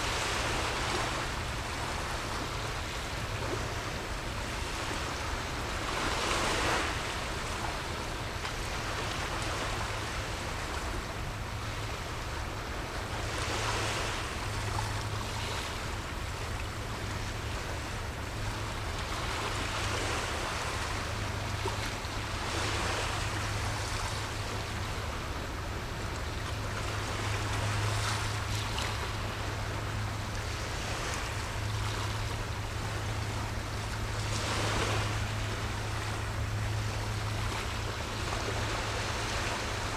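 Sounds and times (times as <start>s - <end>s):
sea waves washing on shore: 0.0s - 39.9s
steady low hum: 7.0s - 39.9s.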